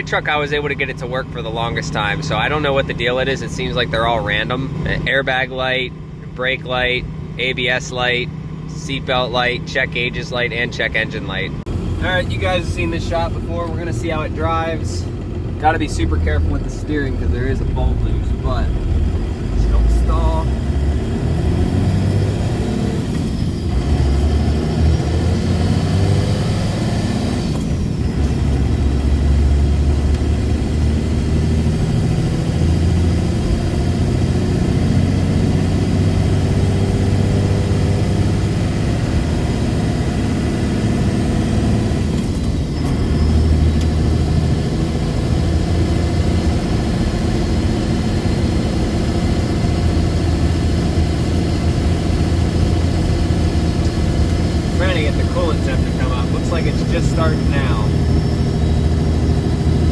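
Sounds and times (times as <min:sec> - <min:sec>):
diesel truck engine driving: 0:00.0 - 0:59.9.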